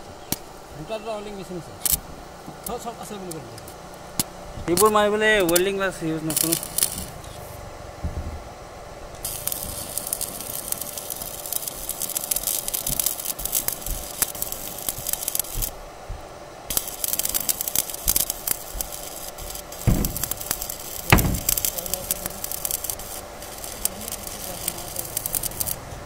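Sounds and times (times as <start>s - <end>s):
welding arc crackling and sizzling: 1.3s - 7.7s, 9.0s - 26.0s.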